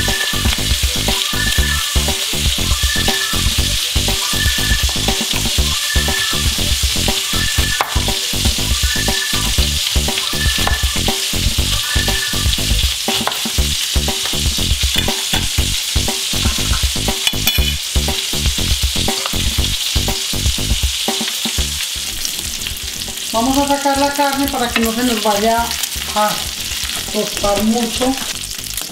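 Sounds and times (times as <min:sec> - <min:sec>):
meat sizzling in a grill pan: 0:00.0 - 0:28.9.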